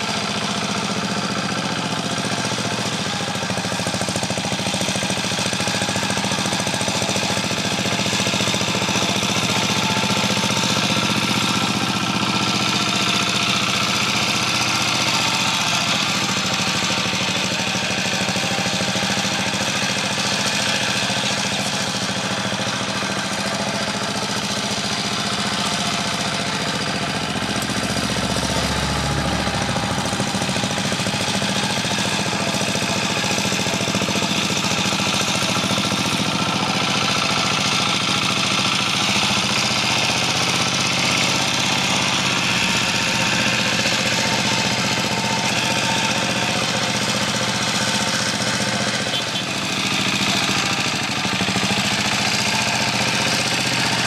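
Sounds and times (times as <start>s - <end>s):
hand tractor engine chugging: 0.0s - 54.0s.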